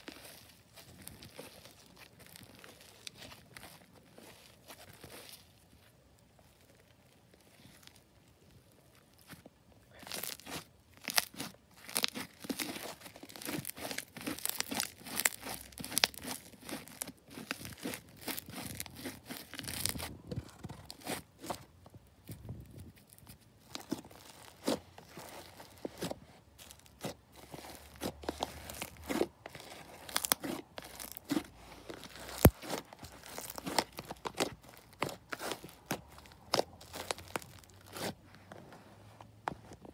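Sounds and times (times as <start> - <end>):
foam-bead slime crackling: 0.0 - 38.4.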